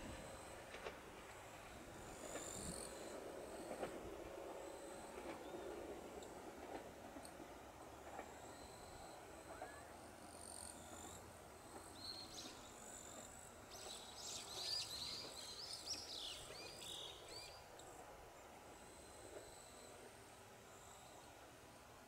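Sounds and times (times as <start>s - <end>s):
faint low train rumble: 0.0s - 22.0s.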